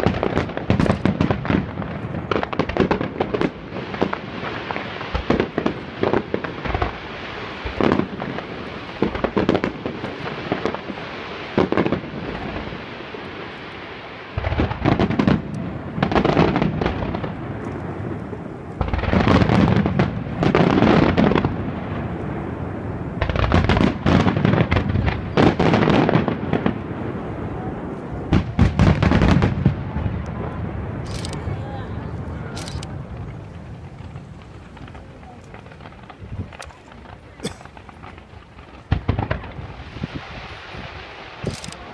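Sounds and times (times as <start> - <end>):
fireworks booming and crackling: 0.0 - 41.9.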